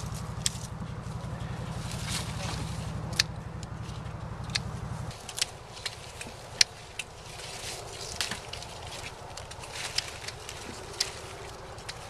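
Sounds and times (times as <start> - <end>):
leaf rustling: 0.0 - 12.0
low pulsing rumble: 0.0 - 12.0
pruning shears snipping: 0.0 - 12.0.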